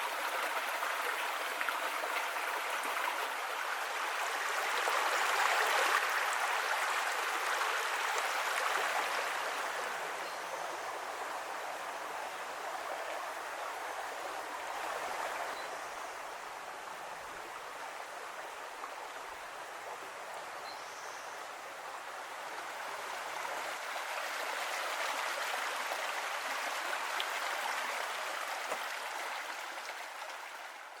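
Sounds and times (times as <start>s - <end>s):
creek water rushing over rocks: 0.0s - 20.6s, 21.4s - 31.0s.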